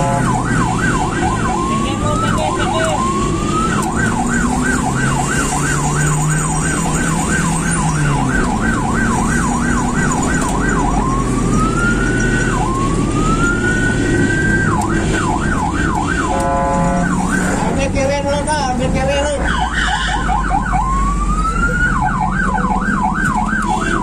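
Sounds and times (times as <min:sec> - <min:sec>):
ambulance siren: 0:00.0 - 0:24.0
engine and road rumble: 0:00.0 - 0:24.0.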